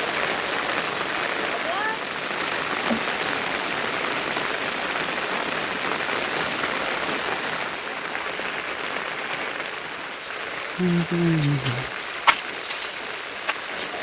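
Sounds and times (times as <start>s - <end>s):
rain falling steadily: 0.0s - 14.0s.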